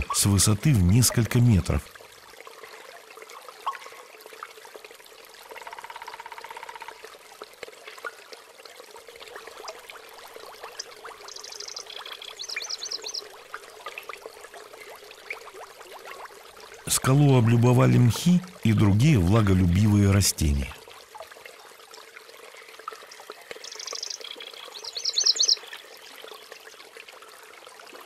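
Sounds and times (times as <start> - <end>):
water dripping and splashing: 1.2 - 18.7, 20.3 - 28.0.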